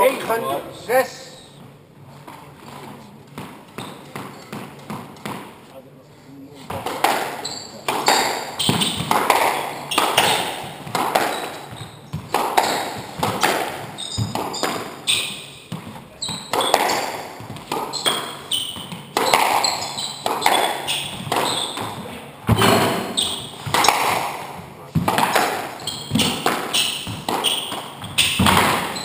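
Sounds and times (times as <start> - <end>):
shoes squeaking on wooden floor: 0.0 - 5.8, 6.5 - 29.0
squash ball hits echoing: 2.3 - 5.6, 6.7 - 29.0.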